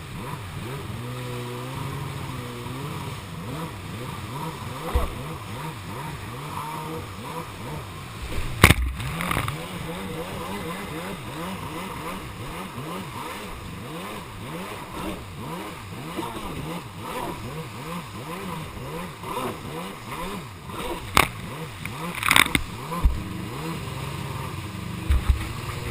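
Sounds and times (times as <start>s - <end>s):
jet ski engine revving: 0.0s - 25.9s.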